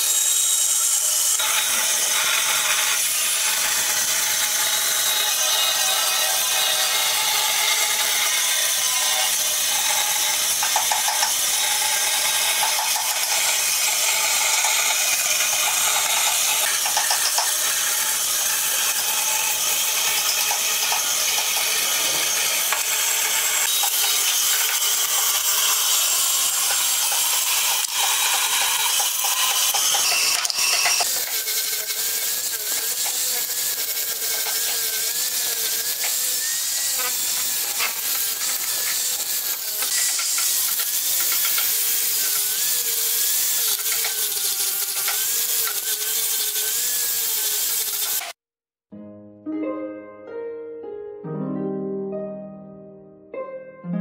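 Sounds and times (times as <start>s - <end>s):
angle grinder whine: 0.0s - 48.4s
bandsaw cutting wood: 0.0s - 48.4s.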